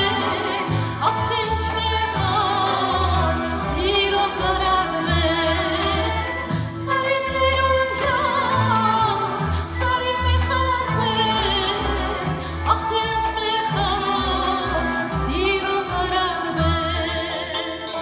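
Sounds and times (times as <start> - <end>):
instrumental accompaniment with bass: 0.0 - 18.0
woman singing into a microphone: 0.0 - 18.0.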